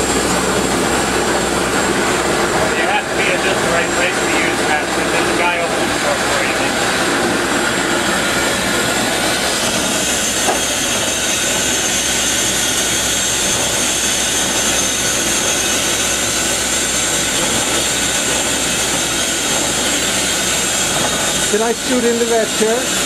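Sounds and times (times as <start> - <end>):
steam hissing: 0.0 - 23.0.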